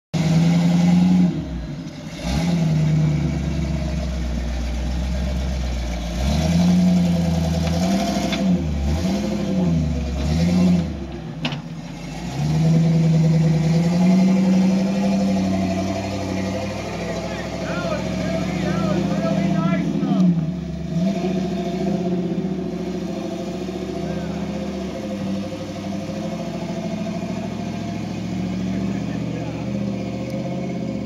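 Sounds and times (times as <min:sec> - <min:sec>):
off-road vehicle engine revving: 0:00.2 - 0:31.0.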